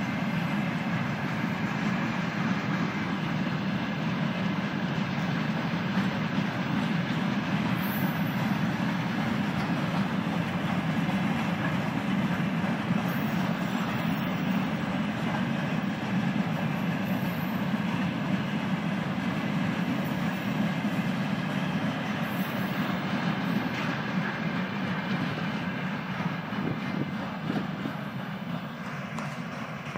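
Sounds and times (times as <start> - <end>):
freight train wheels rumbling on rails: 0.0 - 29.9.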